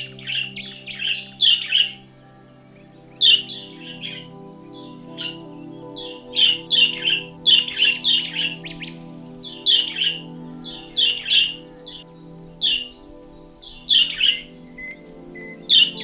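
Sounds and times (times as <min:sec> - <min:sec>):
background music: 0:00.0 - 0:16.0
songbird chirping: 0:00.0 - 0:16.0.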